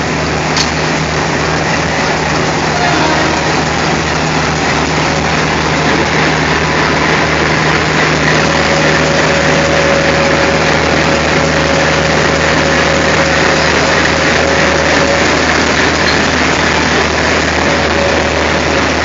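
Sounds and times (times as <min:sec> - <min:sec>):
diesel locomotive engine droning: 0:00.0 - 0:19.0.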